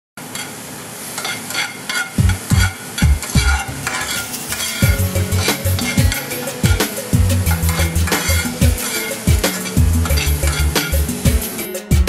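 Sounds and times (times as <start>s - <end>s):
mushrooms sizzling in a pan: 0.5s - 11.6s
metal spoon scraping a pan: 1.2s - 11.6s
low thumping beat: 2.2s - 12.0s.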